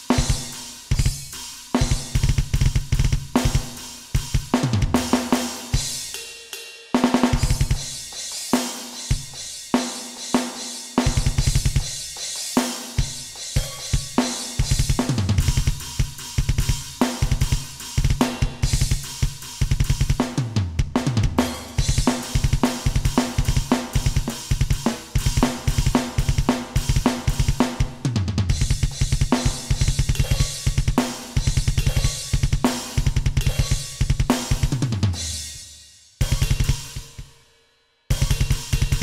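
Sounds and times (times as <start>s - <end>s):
snare and cymbal hits: 0.0s - 39.0s
fast kick drum: 0.1s - 6.0s, 7.2s - 8.1s, 11.0s - 12.1s, 13.0s - 35.4s, 36.2s - 37.3s, 38.1s - 39.0s.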